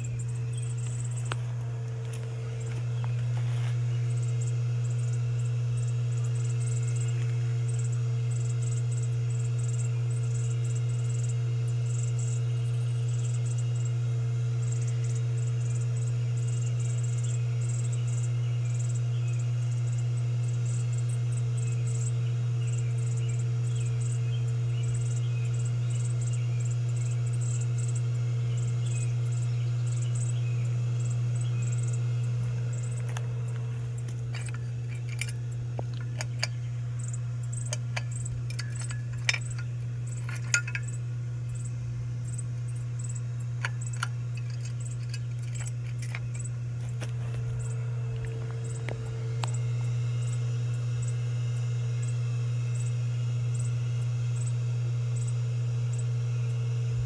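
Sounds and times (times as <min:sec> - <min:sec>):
ceiling fan motor humming: 0:00.0 - 0:57.0.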